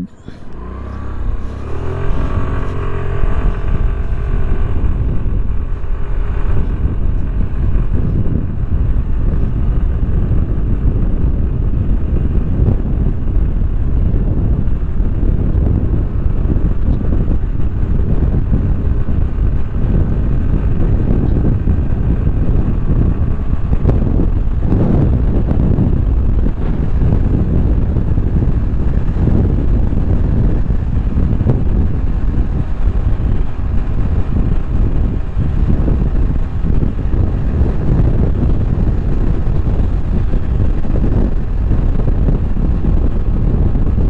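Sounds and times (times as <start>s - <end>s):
road rumble: 0.0s - 44.0s
scooter engine accelerating: 0.0s - 44.0s
wind buffeting on microphone: 0.0s - 44.0s.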